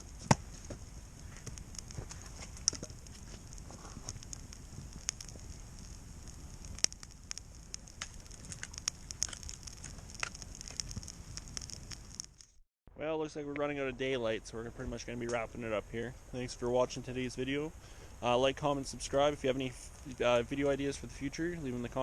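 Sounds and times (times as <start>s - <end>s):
campfire crackling and popping: 0.0s - 12.6s, 13.4s - 22.0s.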